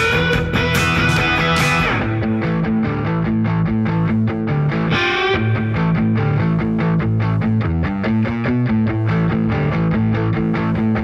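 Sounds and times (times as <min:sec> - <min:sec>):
distorted electric guitar riff: 0:00.0 - 0:11.0
rock music: 0:00.0 - 0:11.0.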